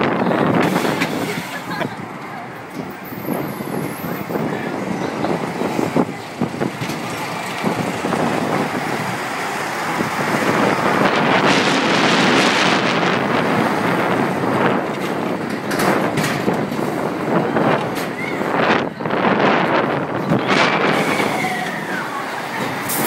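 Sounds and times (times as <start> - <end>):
roller coaster wheels rumbling: 0.0 - 23.0
wind buffeting microphone: 0.0 - 23.0.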